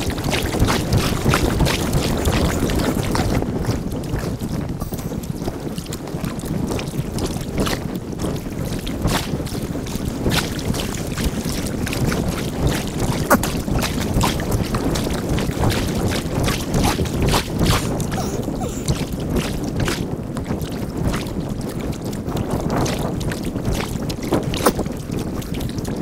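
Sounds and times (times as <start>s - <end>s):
paddle splashes and clicks: 0.0s - 26.0s
wind on microphone: 0.0s - 26.0s.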